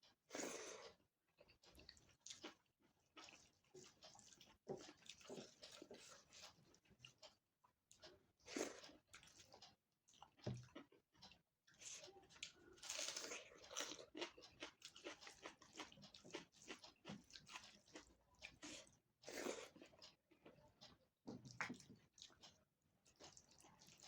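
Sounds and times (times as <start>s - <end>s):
person chewing crunchy food: 0.3s - 7.3s, 8.4s - 24.0s.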